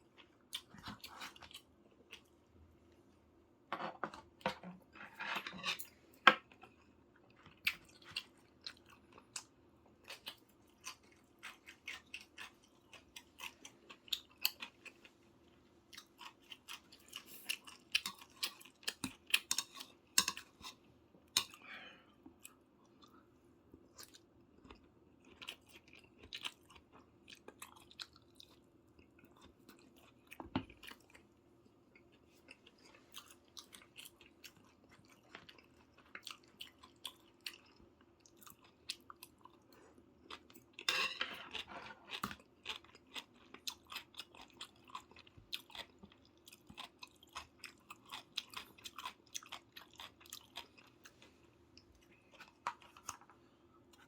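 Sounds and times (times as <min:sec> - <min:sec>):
person chewing and eating: 0:00.0 - 0:02.5, 0:04.8 - 0:54.0.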